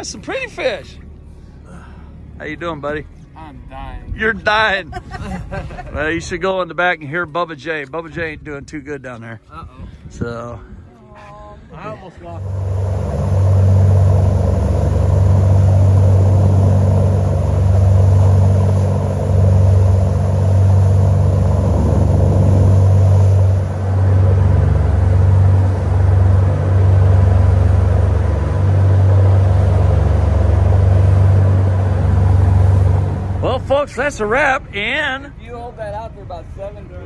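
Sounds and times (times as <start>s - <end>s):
boat engine drone: 0.0s - 4.8s, 11.6s - 37.0s.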